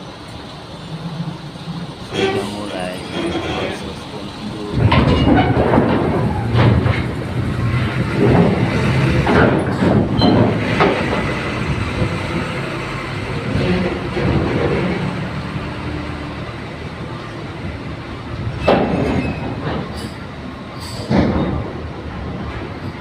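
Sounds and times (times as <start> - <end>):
heavy mechanical rumble: 0.0 - 23.0.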